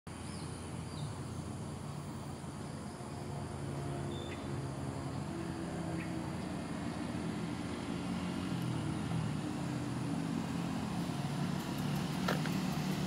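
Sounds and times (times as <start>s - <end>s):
motorcycle engine humming: 0.1s - 13.0s.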